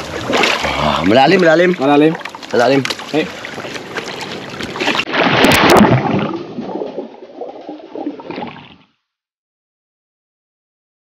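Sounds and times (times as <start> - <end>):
underwater rush and gurgle: 0.0 - 9.0
water splashing: 0.0 - 9.0.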